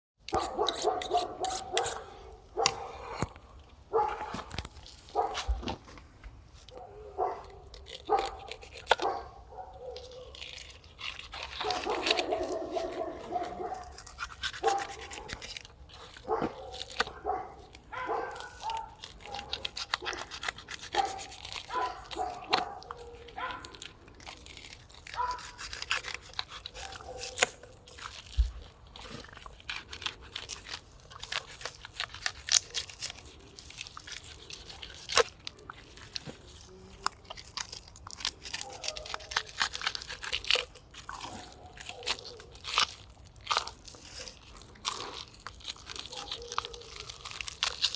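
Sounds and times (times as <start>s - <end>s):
knife crunching into fish: 0.2s - 47.9s.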